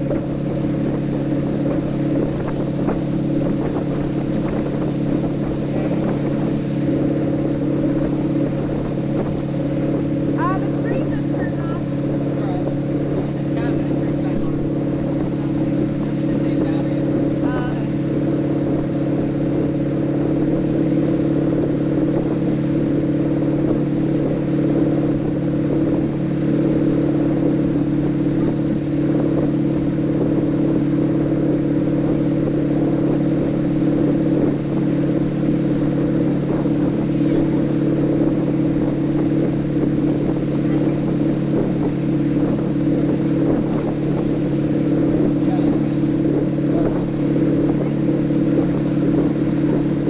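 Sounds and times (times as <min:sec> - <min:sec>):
boat engine drone: 0:00.0 - 0:50.0.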